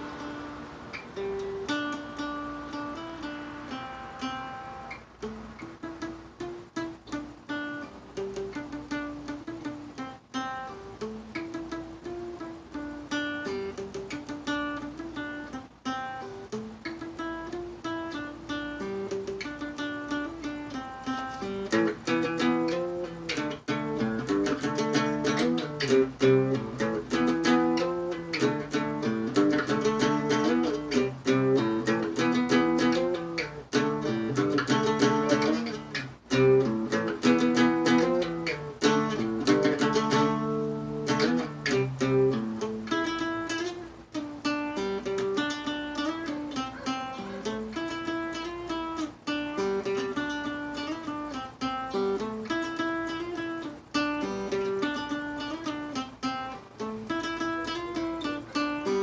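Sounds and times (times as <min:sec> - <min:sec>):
acoustic guitar picked riff: 0:00.0 - 0:59.0.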